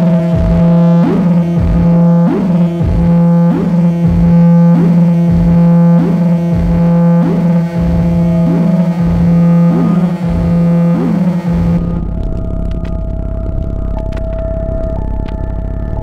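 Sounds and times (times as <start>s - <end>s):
low synthesizer drone: 0.0s - 16.0s
swooping falling synth pitch: 0.0s - 16.0s
synth noise layer: 0.0s - 16.0s.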